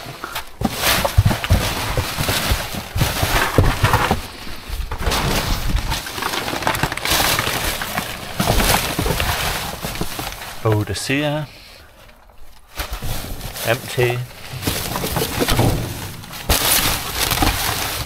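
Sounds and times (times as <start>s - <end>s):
packaging rustling and crinkling: 0.0s - 18.0s
sharp crackles and knocks: 0.0s - 18.0s.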